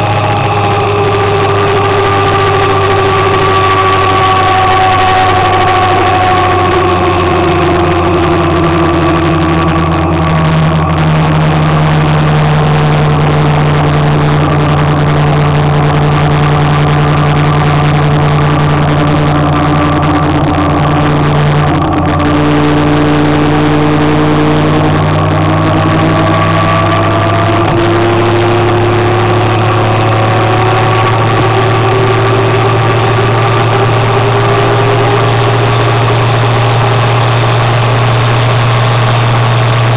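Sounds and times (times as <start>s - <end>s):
constant rushing noise: 0.0s - 39.9s
motor scooter engine running: 0.0s - 39.9s.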